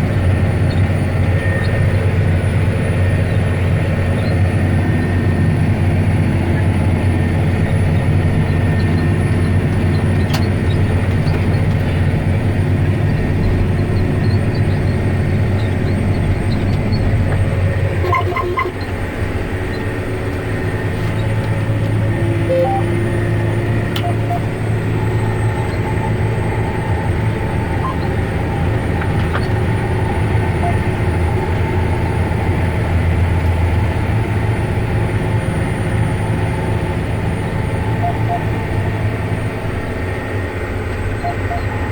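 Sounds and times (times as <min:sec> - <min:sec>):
tractor diesel engine droning: 0:00.0 - 0:41.9.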